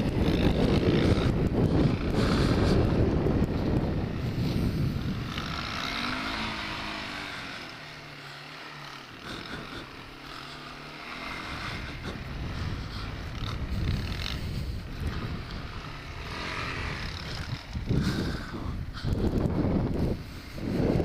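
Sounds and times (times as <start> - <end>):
wind rushing on microphone: 0.0 - 7.6, 11.2 - 21.0
atv engine running: 0.0 - 21.0.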